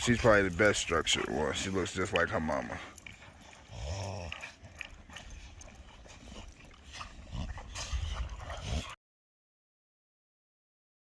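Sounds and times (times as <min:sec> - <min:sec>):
dogs vocalising: 0:00.1 - 0:09.0.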